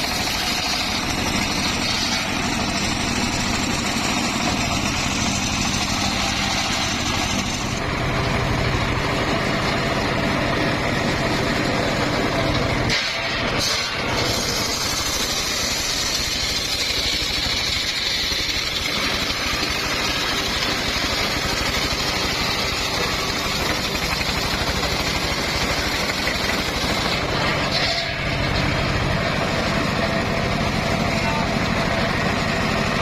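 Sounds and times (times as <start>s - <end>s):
sawmill motor drone: 0.0s - 33.0s.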